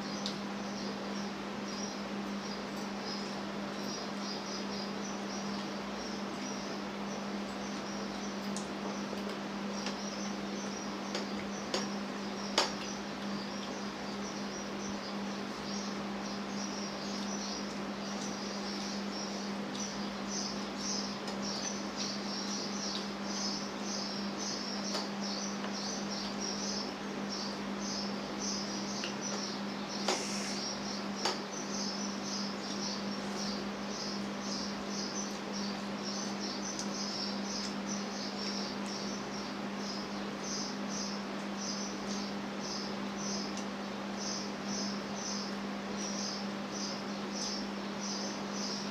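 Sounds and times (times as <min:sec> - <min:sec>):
insects chirping: 0:00.1 - 0:48.9.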